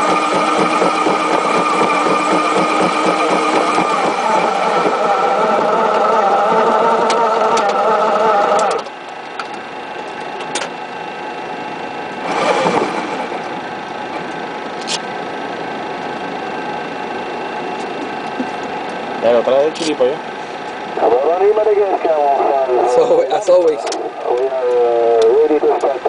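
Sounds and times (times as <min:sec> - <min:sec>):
jet engine whine: 0:00.0 - 0:26.0.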